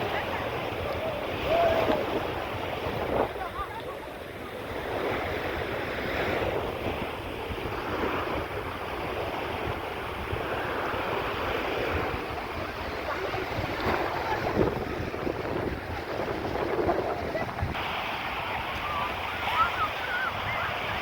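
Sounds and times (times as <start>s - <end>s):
sea surf washing: 0.0s - 21.0s
wind buffeting microphone: 0.0s - 21.0s.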